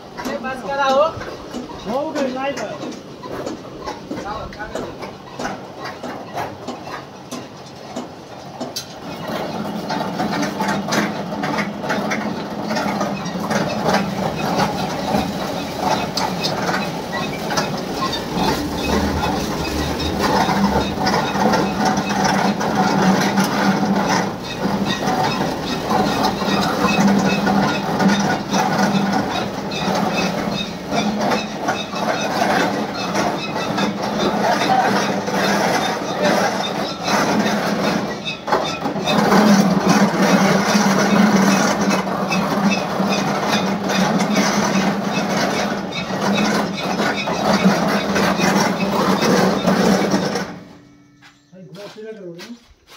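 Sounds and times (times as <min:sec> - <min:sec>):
baling mechanism rattling: 0:00.1 - 0:50.8
baler motor humming: 0:08.1 - 0:51.0.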